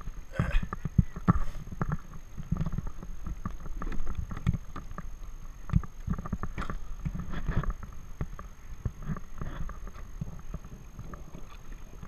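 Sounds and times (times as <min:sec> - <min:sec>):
water splashing against hull: 0:00.0 - 0:12.0
wind on microphone: 0:00.0 - 0:12.0.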